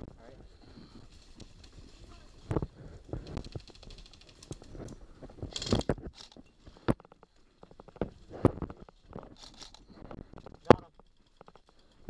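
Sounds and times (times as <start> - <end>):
gear rustling: 0.5 - 12.0.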